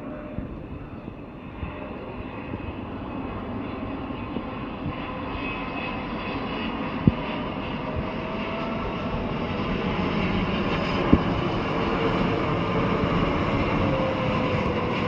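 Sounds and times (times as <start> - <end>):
faint whining tones falling in pitch: 0.0 - 15.0
jet airliner engines running: 0.0 - 15.0.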